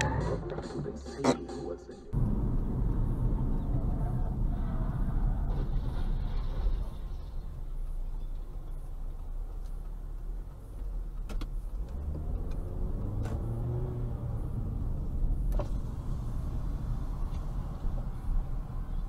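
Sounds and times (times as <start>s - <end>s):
car engine accelerating: 2.1s - 19.0s
road noise inside car: 2.1s - 19.0s.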